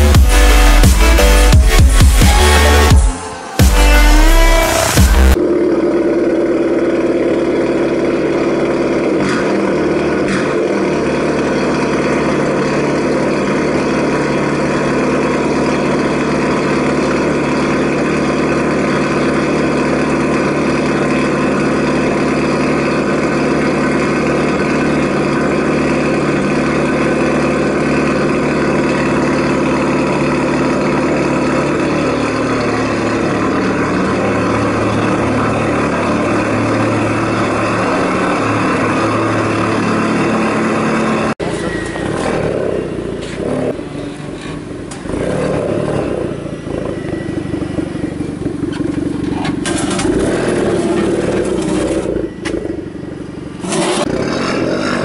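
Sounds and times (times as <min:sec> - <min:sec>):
car engine idling: 0:00.0 - 0:54.1.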